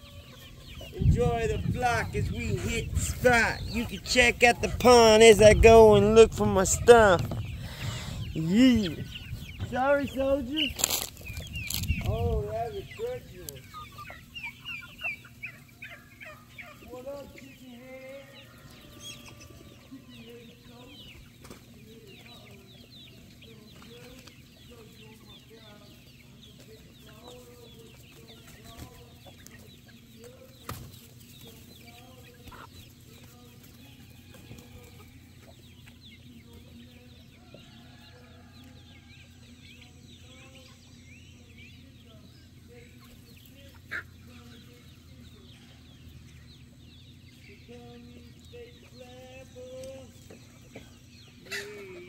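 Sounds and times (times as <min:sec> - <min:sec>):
chickens clucking softly: 0:00.0 - 0:52.0.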